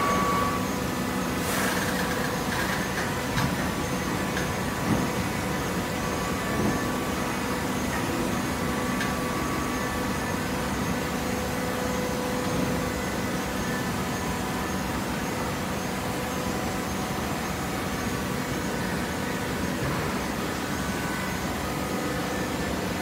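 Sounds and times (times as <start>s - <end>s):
hydraulic machine humming: 0.0s - 23.0s.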